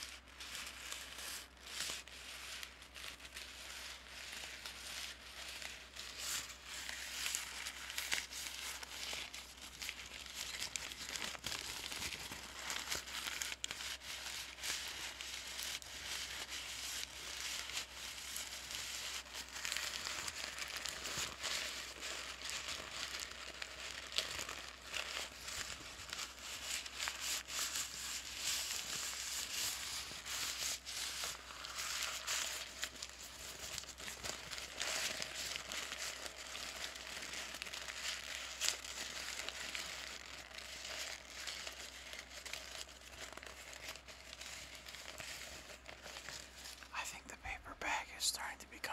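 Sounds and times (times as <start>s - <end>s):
paper bag crinkling: 0.3s - 47.4s.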